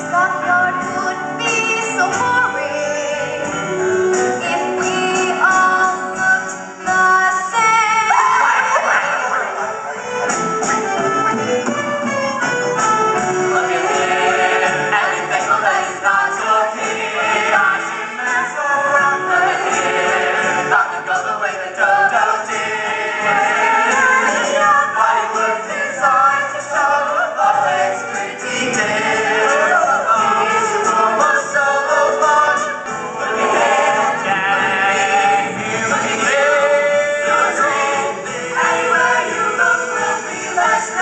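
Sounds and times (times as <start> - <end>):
instrumental accompaniment: 0.0 - 41.0.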